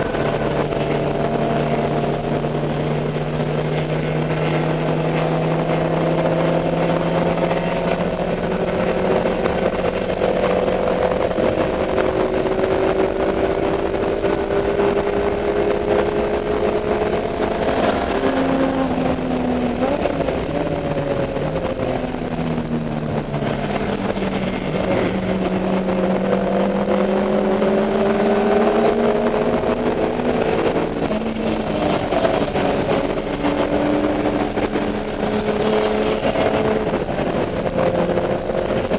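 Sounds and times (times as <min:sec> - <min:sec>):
race car engine: 0:00.0 - 0:38.9.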